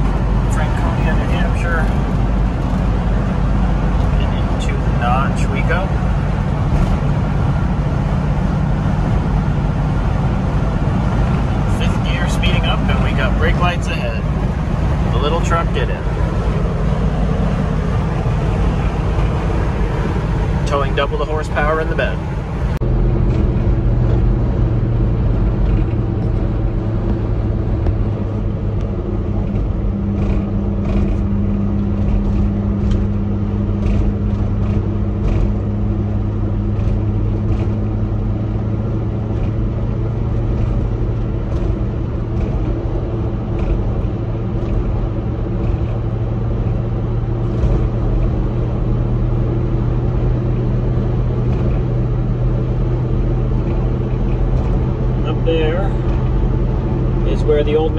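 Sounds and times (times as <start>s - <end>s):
truck engine running: 0.0s - 57.9s
tyre and road noise: 0.0s - 57.9s.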